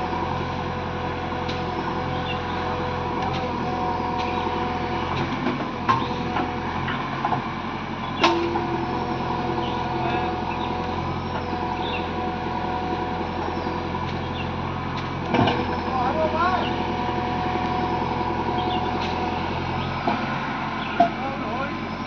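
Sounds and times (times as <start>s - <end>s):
constant whine: 0.0s - 22.0s
diesel engine running: 0.0s - 22.0s.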